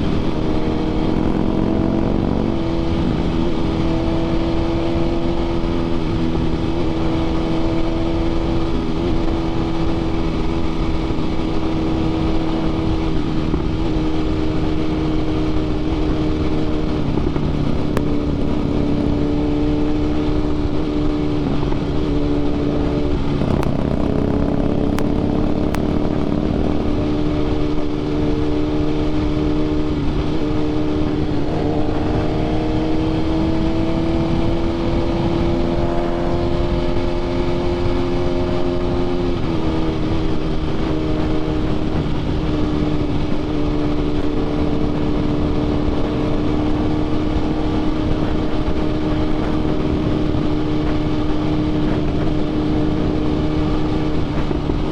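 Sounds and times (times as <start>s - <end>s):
motorcycle engine cruising: 0.0s - 54.9s
wind rush over microphone: 0.0s - 54.9s.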